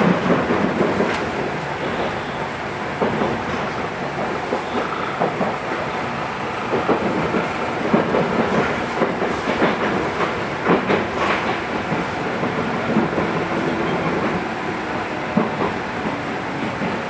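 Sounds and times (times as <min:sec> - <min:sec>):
train interior rumble: 0:00.0 - 0:17.0.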